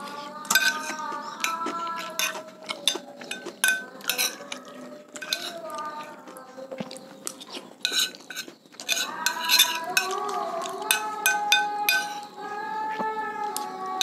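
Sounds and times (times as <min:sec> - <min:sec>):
cutlery clinking on a plate: 0:00.0 - 0:06.2, 0:06.9 - 0:12.3
chanting from a loudspeaker: 0:00.0 - 0:14.0.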